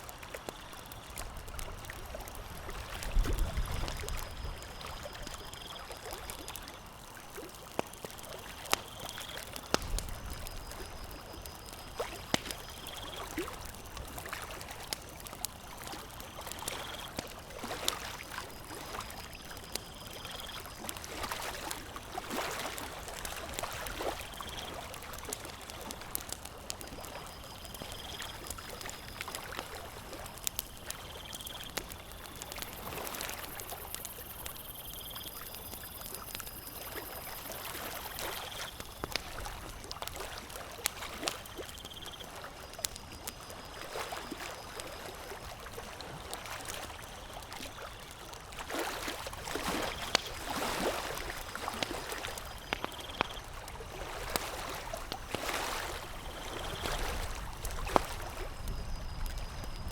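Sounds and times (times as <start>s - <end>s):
campfire crackling and popping: 0.0s - 59.9s
lake water lapping: 1.0s - 34.4s, 35.5s - 42.8s, 43.8s - 59.4s.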